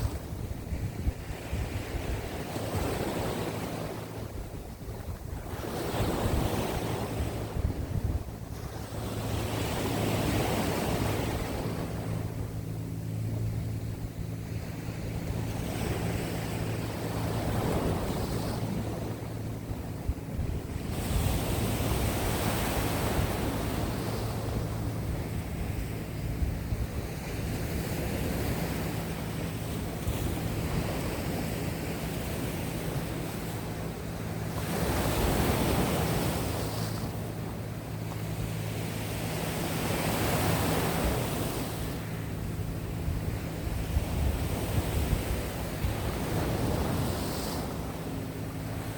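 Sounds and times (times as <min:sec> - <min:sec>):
sea waves washing onto shore: 0:00.0 - 0:48.9
wind buffeting microphone: 0:00.0 - 0:48.9.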